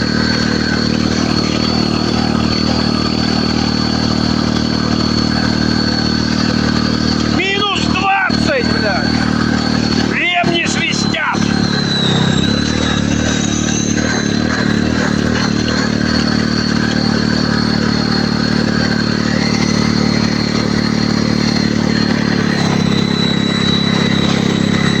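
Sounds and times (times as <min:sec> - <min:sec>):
high-pitched whistle: 0:00.0 - 0:15.1, 0:15.7 - 0:25.0
vehicle engine running: 0:00.0 - 0:25.0.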